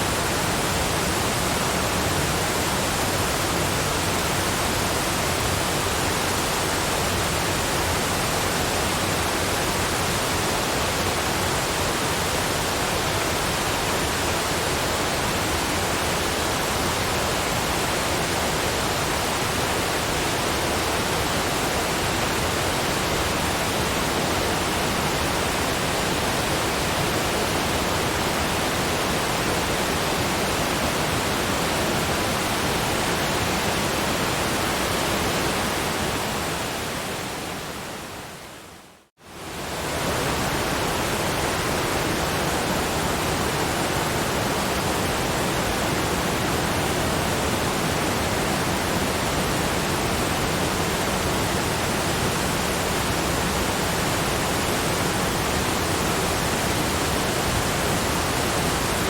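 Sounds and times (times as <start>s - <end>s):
waterfall rushing: 0.0s - 38.8s, 39.4s - 59.0s.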